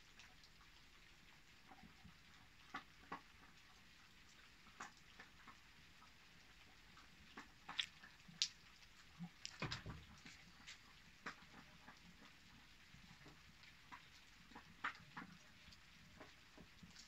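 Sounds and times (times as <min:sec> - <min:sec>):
faint ticks and taps: 0:00.1 - 0:17.0.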